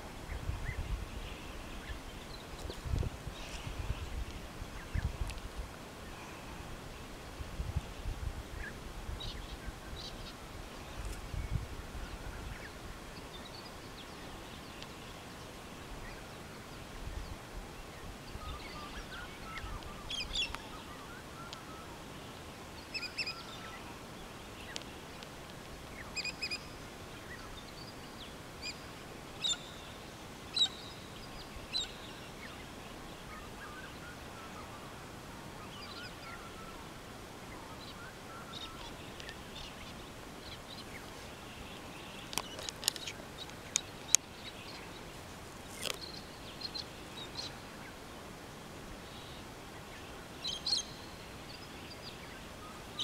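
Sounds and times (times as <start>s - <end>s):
faint outdoor background: 0.0s - 53.0s.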